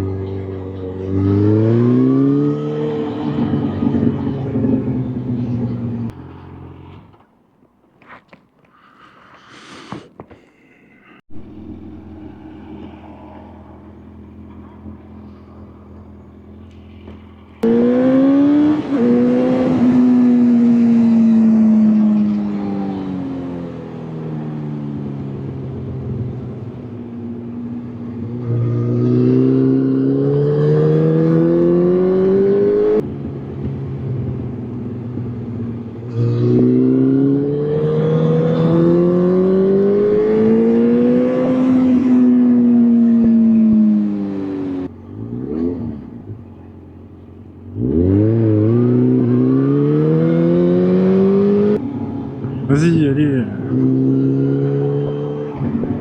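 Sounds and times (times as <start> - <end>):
vehicle engine slowing and accelerating: 0.0 - 7.5, 11.3 - 56.0.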